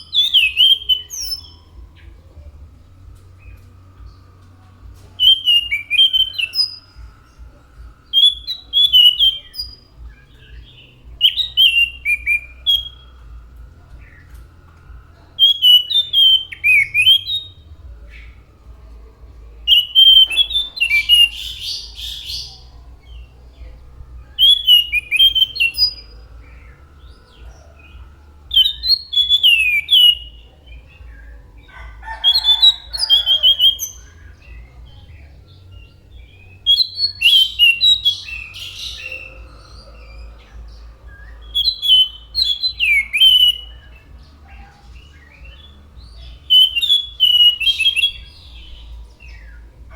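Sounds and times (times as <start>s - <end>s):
faint low hum: 0.0s - 49.9s
thrush singing whistled notes: 0.0s - 49.9s.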